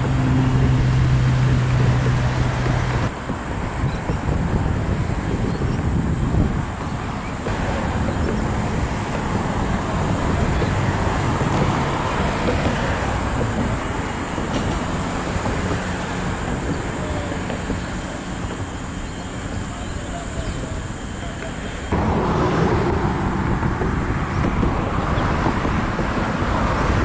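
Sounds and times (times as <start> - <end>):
outdoor rumble: 0.0 - 27.0
vehicle engine humming: 0.0 - 27.0
wind buffeting microphone: 0.0 - 27.0.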